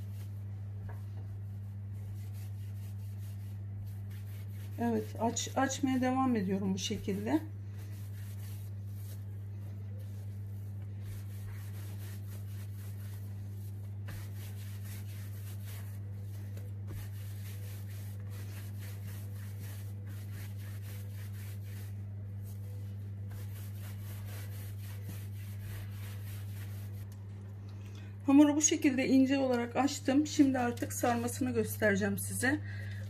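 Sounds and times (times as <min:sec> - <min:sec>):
hands rolling dough on countertop: 0:00.0 - 0:27.2
steady low hum: 0:00.0 - 0:33.0.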